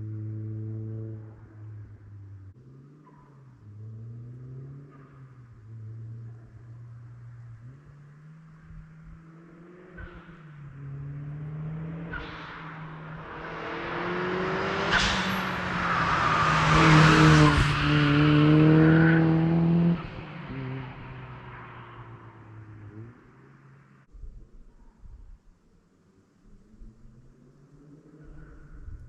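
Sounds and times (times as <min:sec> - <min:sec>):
turbo car accelerating past: 0:00.0 - 0:24.0.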